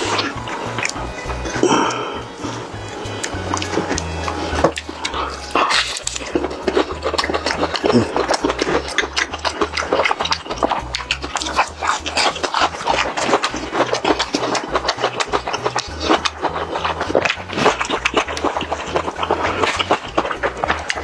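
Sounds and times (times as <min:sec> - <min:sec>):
background music with pulsing bass: 0:00.0 - 0:21.0
crisp crunching: 0:00.0 - 0:21.0
wet chewing: 0:00.0 - 0:21.0.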